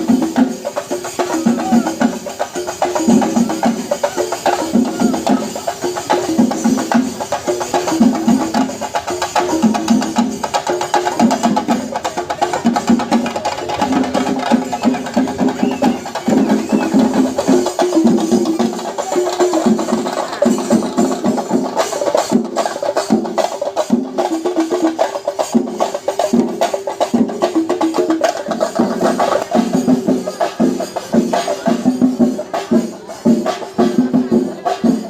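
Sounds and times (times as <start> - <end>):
fast drumming: 0.0 - 35.0.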